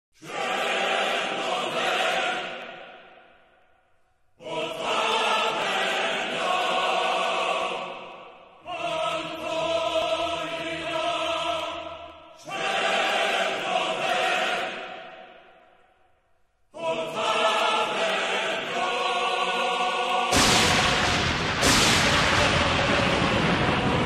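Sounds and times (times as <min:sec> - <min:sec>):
choir singing sustained chords: 0:00.2 - 0:24.0.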